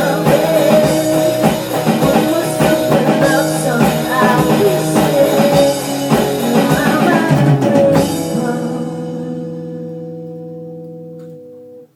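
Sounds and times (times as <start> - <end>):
pop-rock band playing: 0.0 - 11.6.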